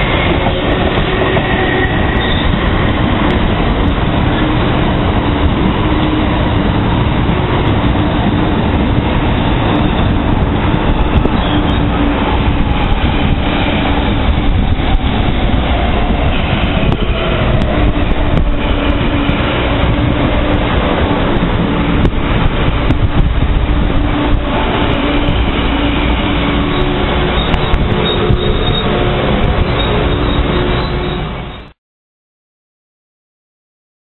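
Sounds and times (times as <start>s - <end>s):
electric train running past: 0.0s - 31.8s.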